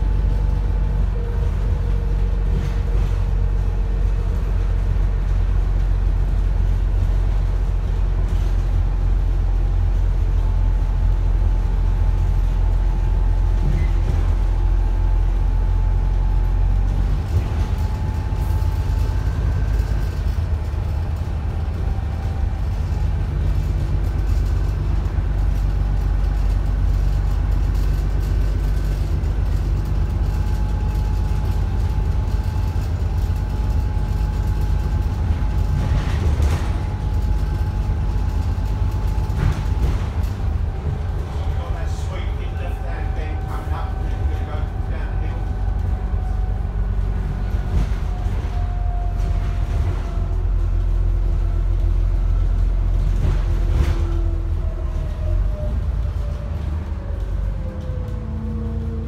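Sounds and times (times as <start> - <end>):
low bus engine drone: 0.0 - 59.0.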